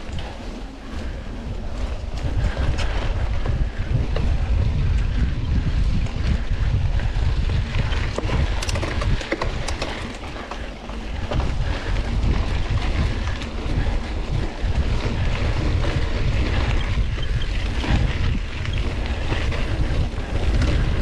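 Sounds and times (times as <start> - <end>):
bike clicking and rattling: 0.0 - 21.0
wind buffeting microphone: 0.0 - 21.0.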